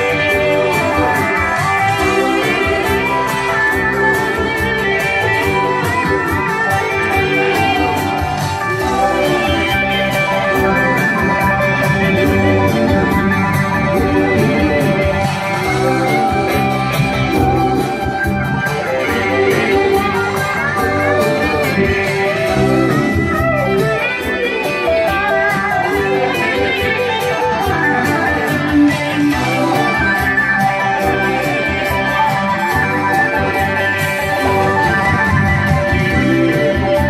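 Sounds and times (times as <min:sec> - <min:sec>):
live band with electric guitar: 0:00.0 - 0:37.0.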